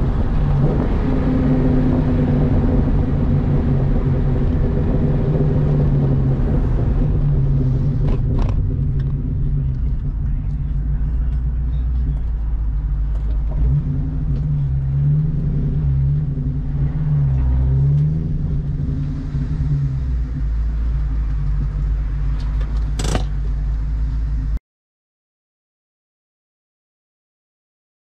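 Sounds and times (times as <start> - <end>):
car engine revving and idling: 0.0 - 24.6.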